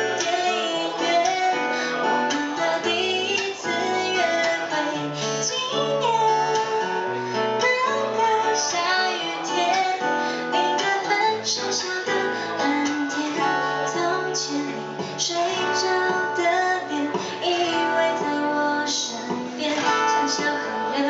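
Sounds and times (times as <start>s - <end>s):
acoustic guitar strumming: 0.0s - 21.0s
woman singing: 0.0s - 21.0s.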